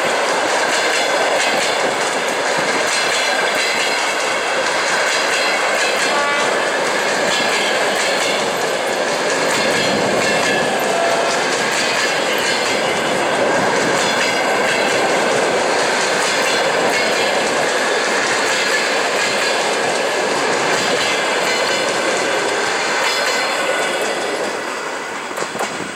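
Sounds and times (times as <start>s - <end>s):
train wheels clattering over rails: 0.0s - 25.9s.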